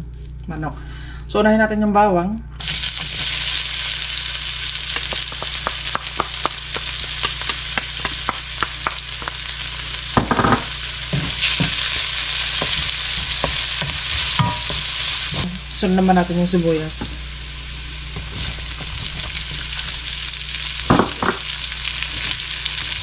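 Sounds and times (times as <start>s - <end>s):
garlic sizzling in hot oil: 2.6s - 23.0s.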